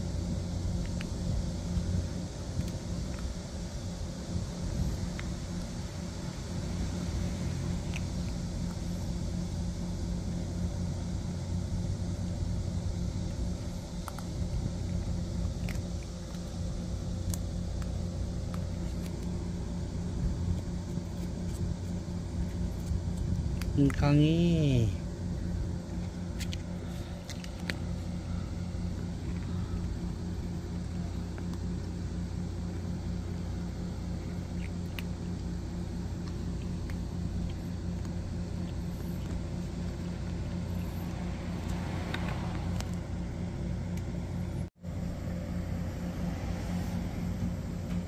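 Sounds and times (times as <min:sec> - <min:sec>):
low mechanical hum: 0:00.0 - 0:48.0.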